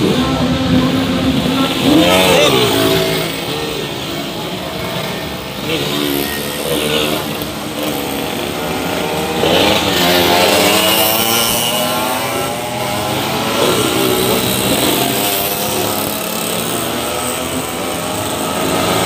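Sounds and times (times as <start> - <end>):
motorcycle engines revving past: 0.0 - 19.0.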